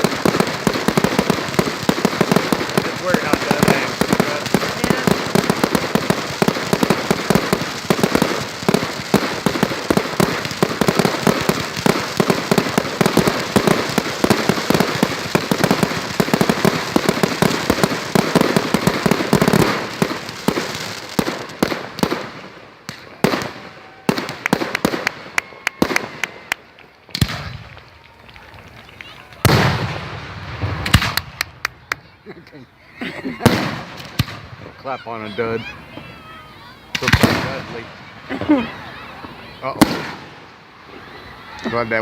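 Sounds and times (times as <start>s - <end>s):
fireworks bangs: 0.0s - 42.0s
fireworks crackling and popping: 0.0s - 42.0s.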